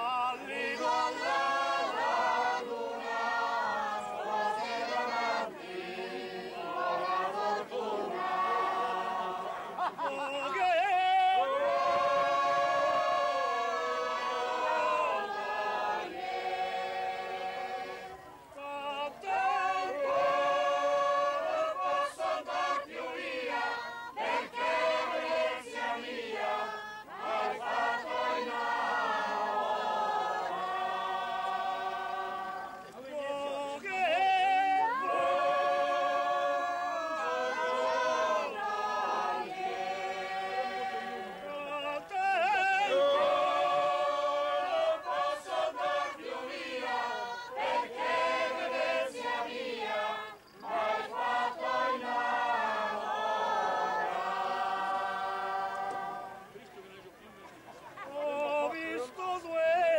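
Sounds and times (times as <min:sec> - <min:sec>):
men and women singing in chorus: 0:00.0 - 0:56.6, 0:58.0 - 0:59.9.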